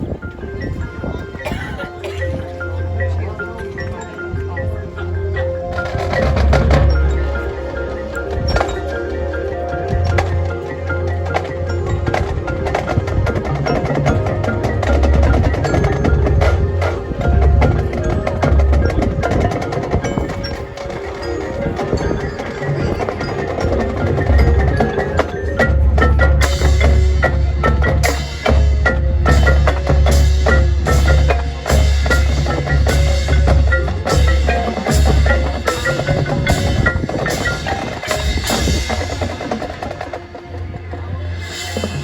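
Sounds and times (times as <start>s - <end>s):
mallet keyboard notes: 0.0s - 42.0s
marching band percussion hits: 5.4s - 42.0s.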